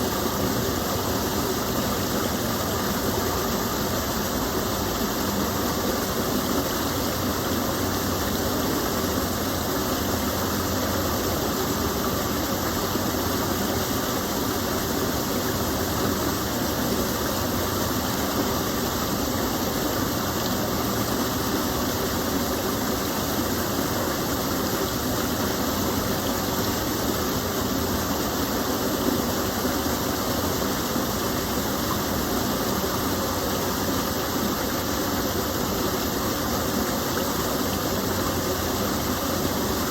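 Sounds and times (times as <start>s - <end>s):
stream pouring over small fall: 0.0s - 39.9s.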